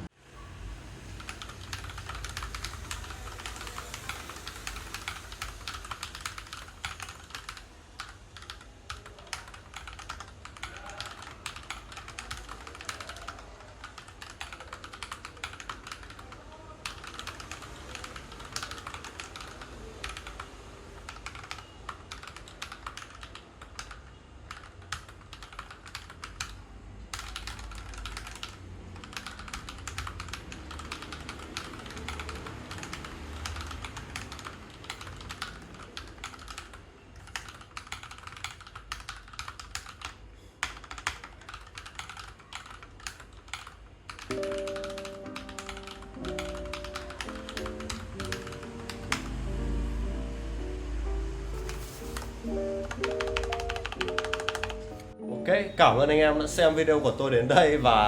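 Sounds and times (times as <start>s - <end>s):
mechanical keyboard typing: 1.1s - 49.5s, 51.5s - 55.2s.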